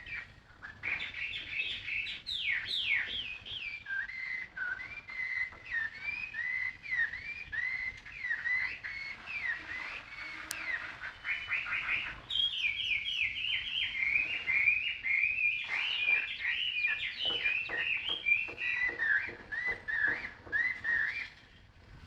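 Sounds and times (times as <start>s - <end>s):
songbird whistled chirps: 0.0s - 21.7s.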